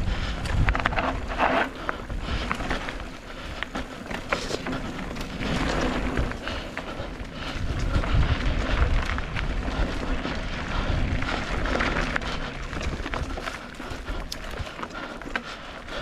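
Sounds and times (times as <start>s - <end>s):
tyre noise on dirt: 0.0s - 15.4s
bike rattling: 0.0s - 16.0s
wind rumbling on microphone: 0.0s - 16.0s
clicks and knocks over bumps: 0.2s - 16.0s.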